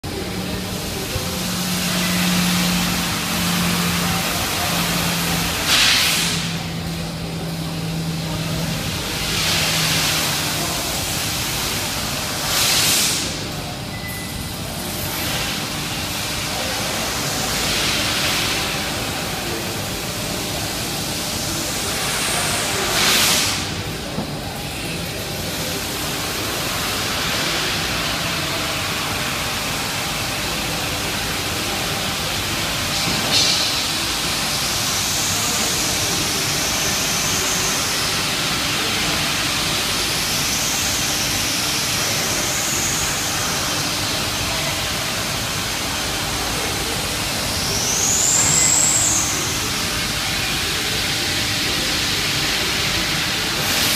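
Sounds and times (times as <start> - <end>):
laser cutter gas hiss: 0.1 - 24.1, 24.7 - 53.9.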